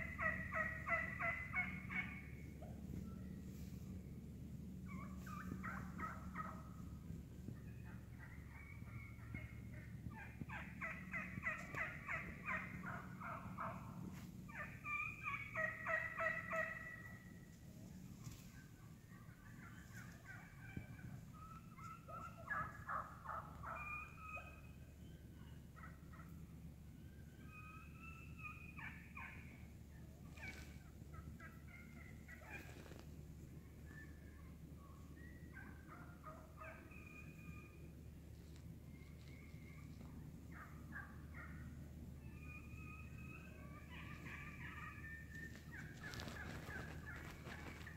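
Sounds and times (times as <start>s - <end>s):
wild turkeys calling: 0.0s - 47.9s.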